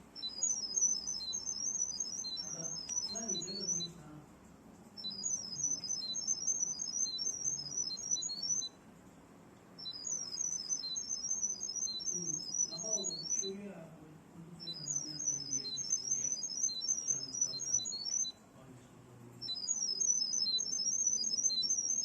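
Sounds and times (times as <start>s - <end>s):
rapid electronic chirping: 0.0s - 4.0s, 5.0s - 8.8s, 9.8s - 13.7s, 14.6s - 18.4s, 19.4s - 22.0s.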